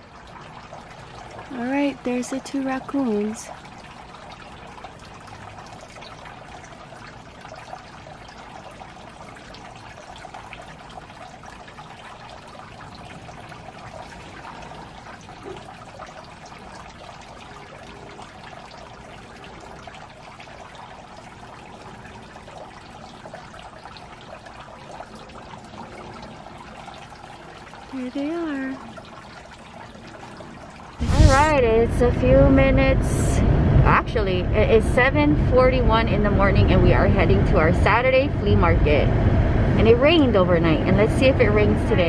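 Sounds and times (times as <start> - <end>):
water trickling and splashing: 0.0 - 42.0.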